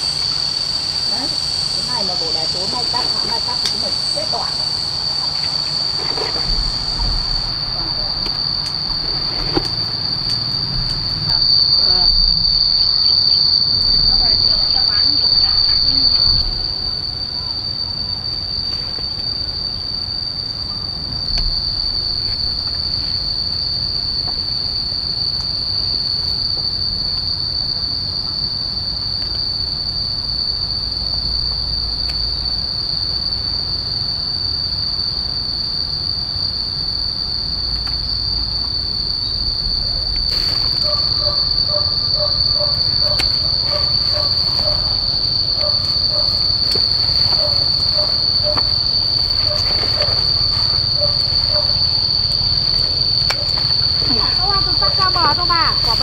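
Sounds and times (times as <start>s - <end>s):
shrill insect chorus: 0.0s - 56.0s.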